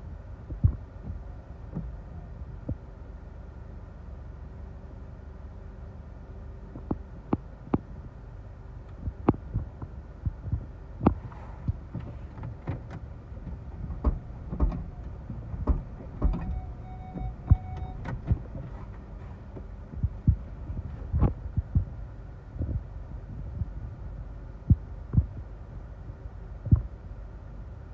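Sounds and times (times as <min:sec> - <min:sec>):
low rumble inside car: 0:00.0 - 0:27.9.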